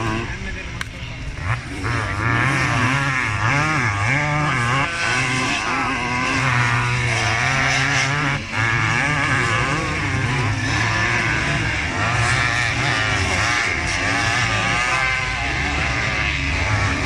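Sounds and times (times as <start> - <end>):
motocross motorcycles revving: 0.0 - 17.0.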